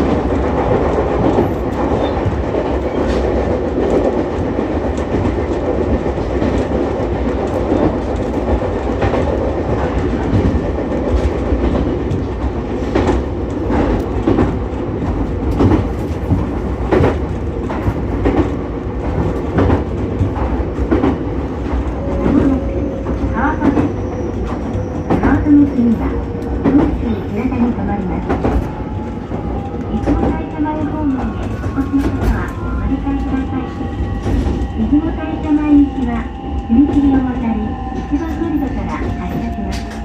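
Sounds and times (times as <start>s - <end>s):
wheels rumbling on rail: 0.0s - 40.0s.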